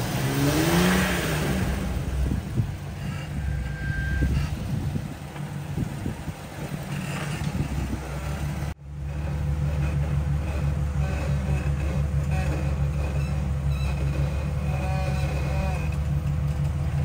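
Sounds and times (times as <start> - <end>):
engine running at low revs: 0.0 - 17.0
knocks and scrapes: 2.3 - 17.0.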